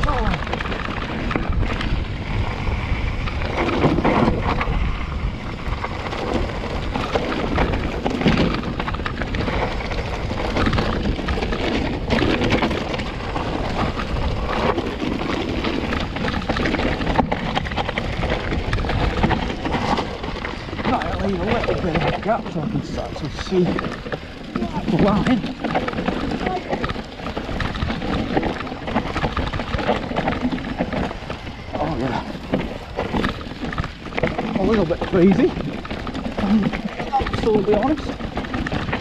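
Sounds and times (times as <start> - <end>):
bike jolting over rocks: 0.0 - 39.0
bike tyres crunching over stones: 0.0 - 39.0.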